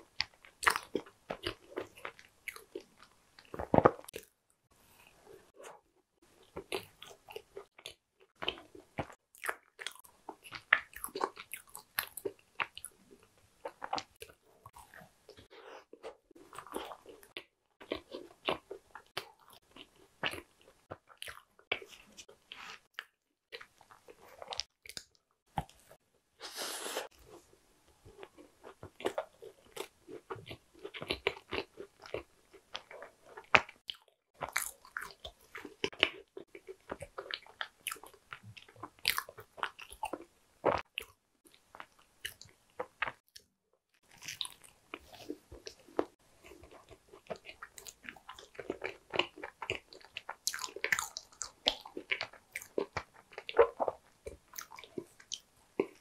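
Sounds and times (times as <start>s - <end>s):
crunchy chewing: 6.4s - 26.0s, 28.1s - 43.2s, 44.0s - 56.0s.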